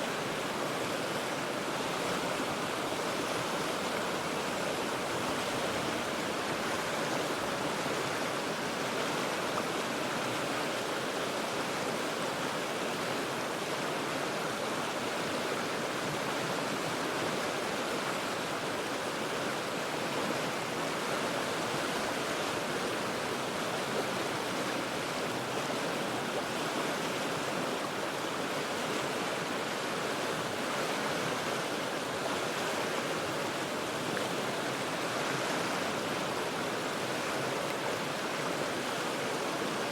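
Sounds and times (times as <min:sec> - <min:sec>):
river rapids roaring: 0:00.0 - 0:39.9.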